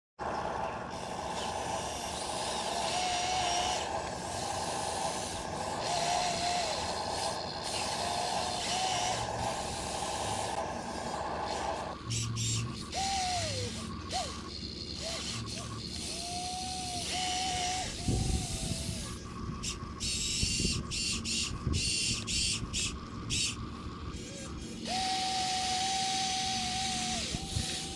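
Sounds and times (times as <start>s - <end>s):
small electric motors whining: 0.2s - 27.9s.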